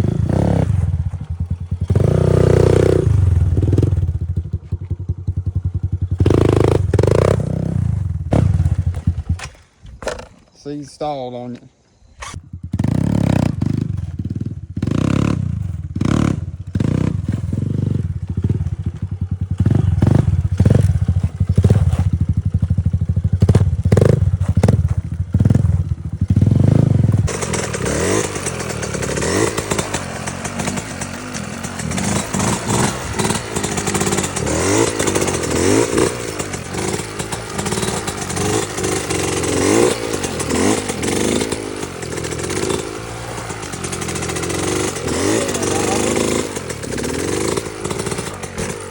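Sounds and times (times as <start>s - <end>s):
dirt bike engine revving: 0.0s - 4.6s, 5.2s - 10.3s, 12.1s - 48.9s.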